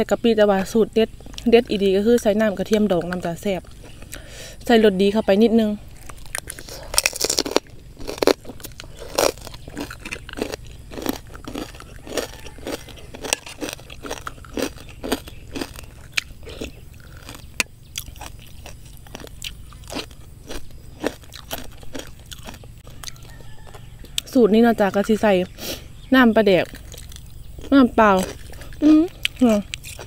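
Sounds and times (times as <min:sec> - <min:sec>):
person chewing crunchy food: 0:01.1 - 0:04.6, 0:05.7 - 0:30.0.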